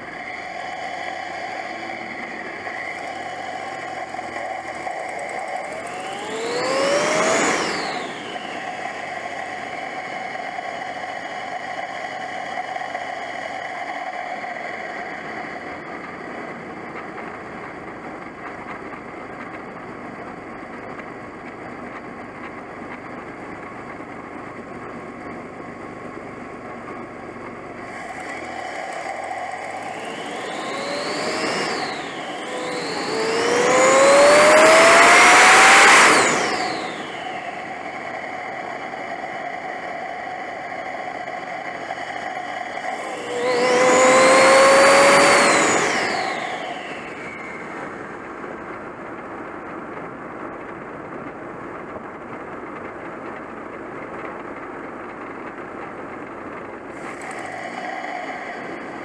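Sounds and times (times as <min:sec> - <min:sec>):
turbo spooling whine: 0:00.0 - 0:50.8, 0:56.3 - 0:59.0
turbocharged car engine running: 0:00.0 - 0:59.0.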